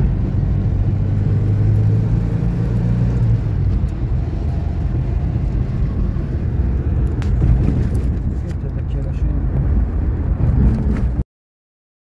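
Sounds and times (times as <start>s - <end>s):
car engine and road noise: 0.0s - 11.2s.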